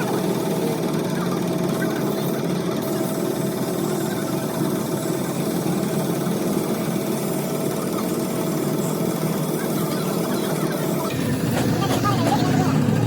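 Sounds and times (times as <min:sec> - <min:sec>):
engine running with whine: 0:00.0 - 0:13.0.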